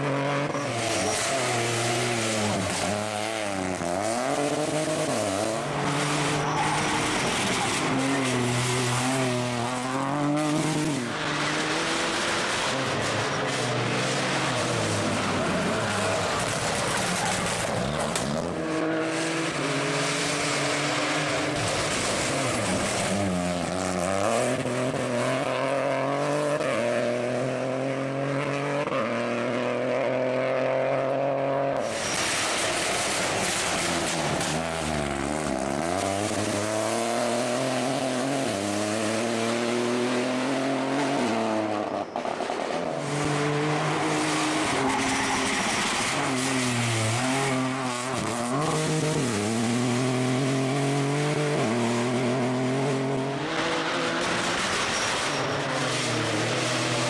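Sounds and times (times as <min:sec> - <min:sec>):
rally car engine at full throttle: 0:00.0 - 0:57.0.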